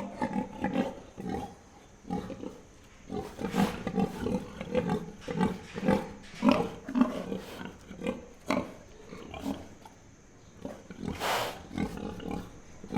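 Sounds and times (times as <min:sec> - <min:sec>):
pigs grunting: 0:00.0 - 0:10.0, 0:10.6 - 0:12.9.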